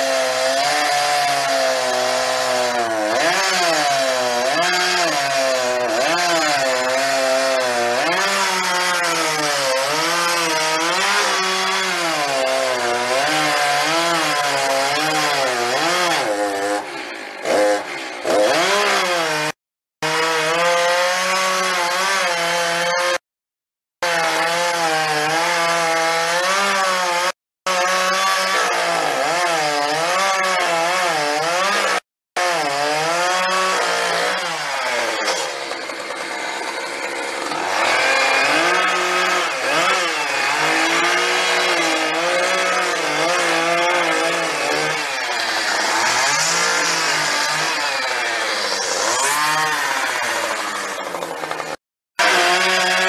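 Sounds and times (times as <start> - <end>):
chainsaw carving into a log: 0.0 - 23.2, 24.0 - 53.0.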